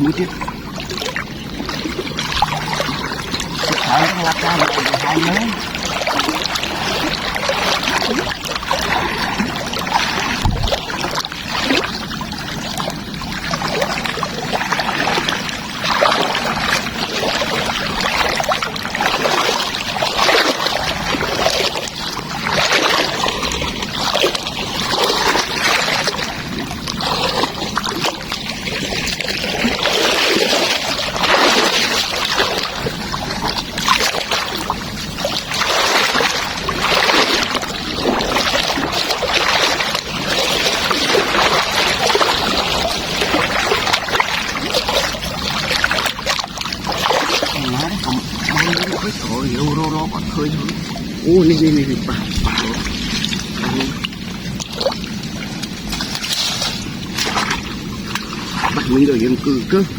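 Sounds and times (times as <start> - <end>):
water splashing and sloshing: 0.0 - 59.9.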